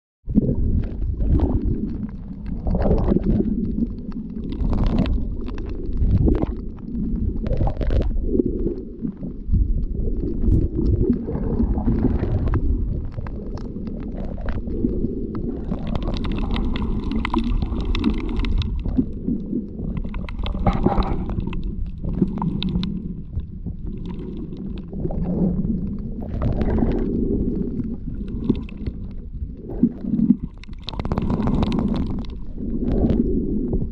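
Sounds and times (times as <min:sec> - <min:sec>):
underwater surge rumble: 0:00.3 - 0:33.9.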